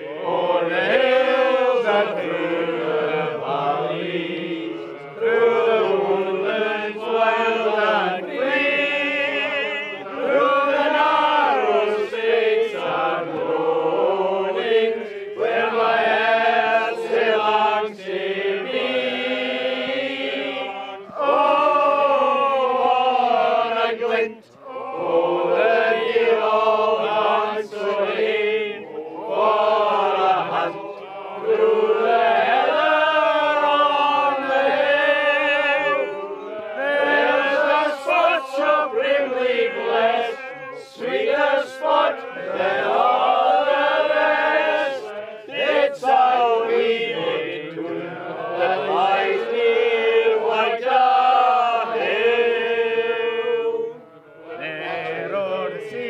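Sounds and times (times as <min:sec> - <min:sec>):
men singing together: 0:00.0 - 0:56.0.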